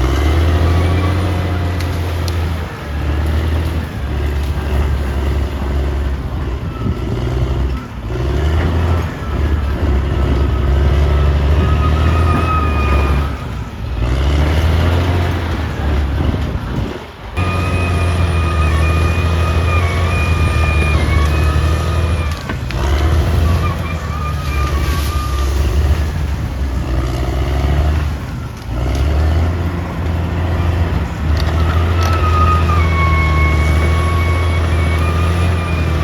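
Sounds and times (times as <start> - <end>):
bulldozer diesel engine under load: 0.0 - 36.0.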